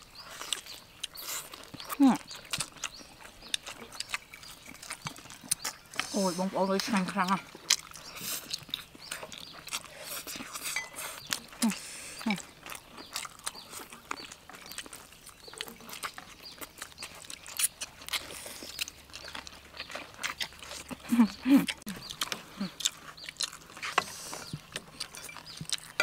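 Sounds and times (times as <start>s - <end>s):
chewing and lip smacking: 0.0s - 26.0s.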